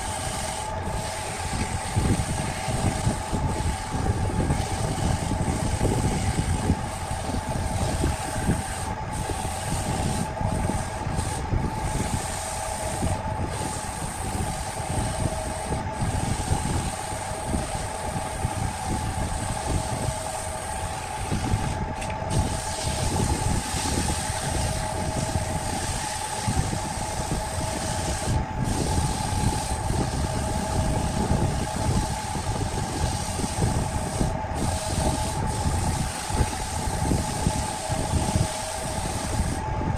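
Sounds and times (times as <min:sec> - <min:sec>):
sandpaper hissing on spinning wood: 0:00.0 - 0:39.7
lathe motor humming: 0:00.0 - 0:39.9.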